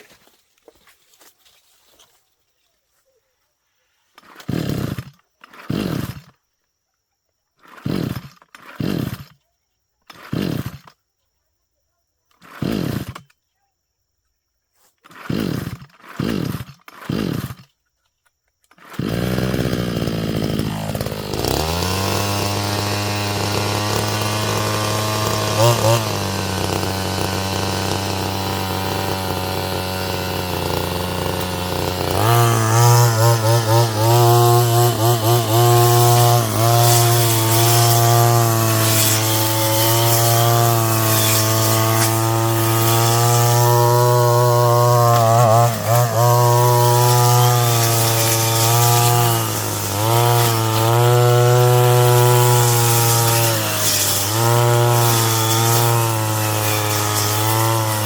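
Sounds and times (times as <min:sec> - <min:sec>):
brush cutter engine revving: 0:04.2 - 0:06.4, 0:07.6 - 0:09.4, 0:10.1 - 0:10.9, 0:12.4 - 0:13.3, 0:15.0 - 0:17.7, 0:18.7 - 0:58.0.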